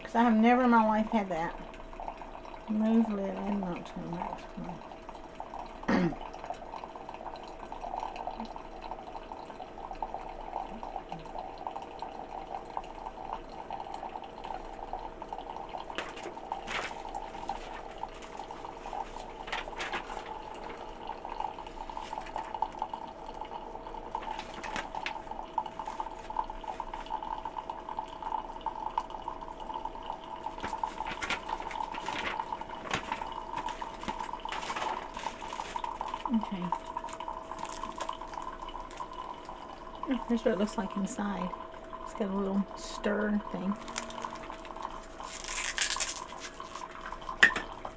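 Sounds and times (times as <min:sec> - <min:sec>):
coffee dripping into cup: 0:00.0 - 0:47.9
coffee maker pump hum: 0:00.0 - 0:47.9.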